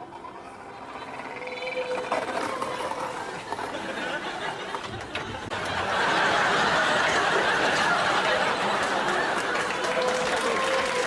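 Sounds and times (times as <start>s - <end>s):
audience applause: 2.0s - 11.0s
audience laughing: 2.0s - 11.0s.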